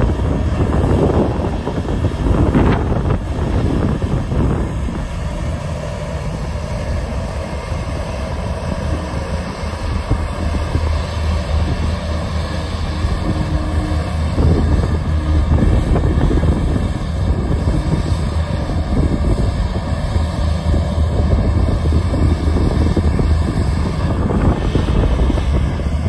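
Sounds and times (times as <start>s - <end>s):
bulldozer diesel engines droning: 0.0s - 26.0s
wind buffeting microphone: 0.0s - 26.0s.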